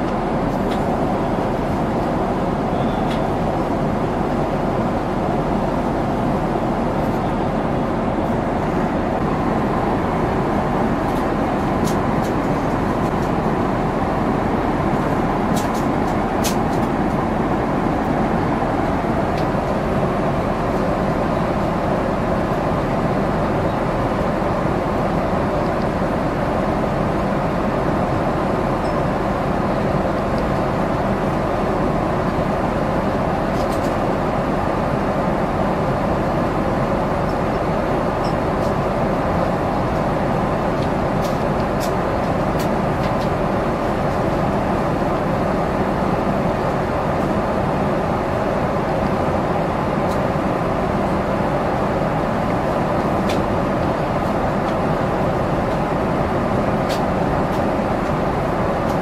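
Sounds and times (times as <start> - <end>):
airplane cabin engine and airflow rush: 0.0 - 59.0.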